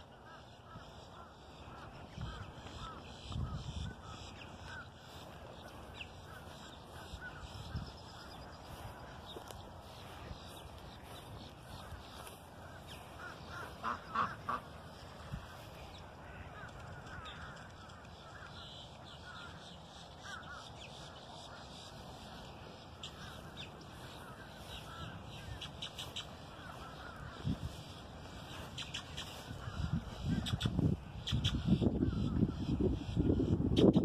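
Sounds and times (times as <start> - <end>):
outdoor background hiss: 0.0 - 33.7
birds calling: 0.0 - 34.0.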